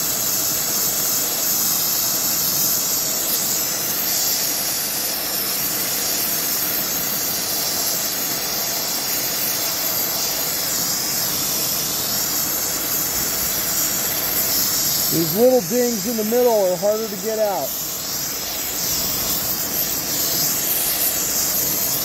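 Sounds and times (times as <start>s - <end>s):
gas torch flame hissing: 0.0s - 22.0s.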